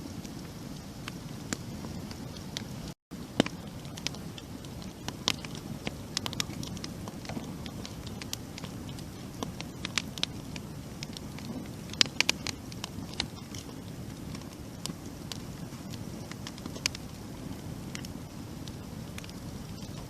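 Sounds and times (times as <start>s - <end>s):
campfire burning: 0.0s - 20.0s
fire crackling and popping: 0.0s - 20.0s.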